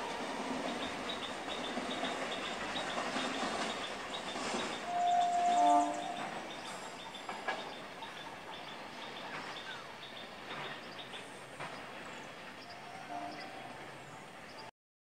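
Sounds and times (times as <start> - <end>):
distant train on track: 0.0 - 14.7.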